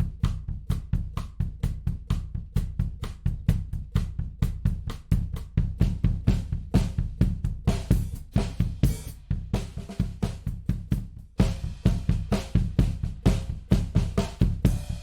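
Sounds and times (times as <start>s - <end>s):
drum kit playing a groove: 0.0s - 15.0s.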